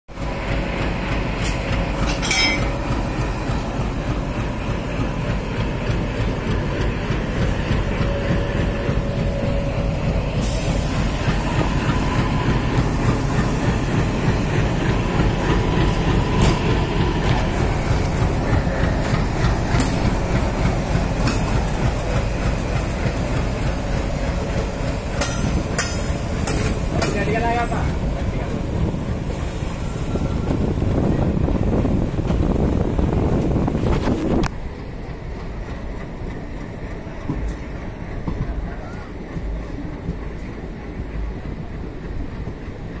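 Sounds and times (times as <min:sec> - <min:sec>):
train rumbling on track: 0:00.1 - 0:43.0.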